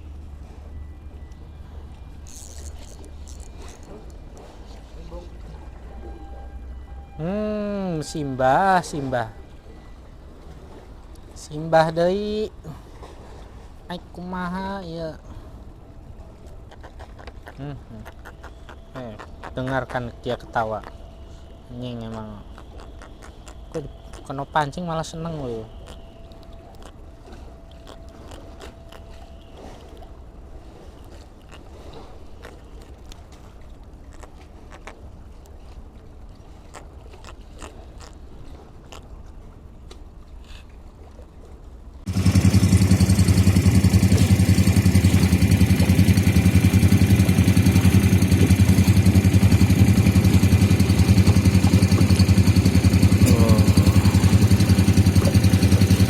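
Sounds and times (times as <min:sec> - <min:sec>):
boat engine humming: 0:00.0 - 0:40.3, 0:41.8 - 0:56.0.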